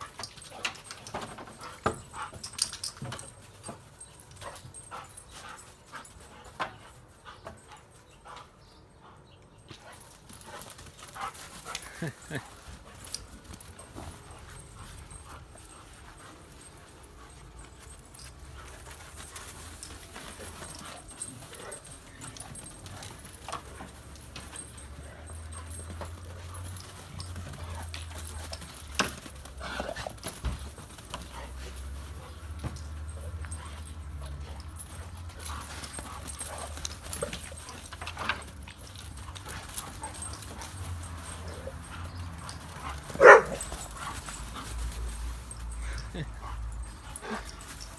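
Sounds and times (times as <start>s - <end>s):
paw clicks: 0.0s - 8.7s, 9.3s - 47.9s
dogs playing: 0.0s - 47.9s.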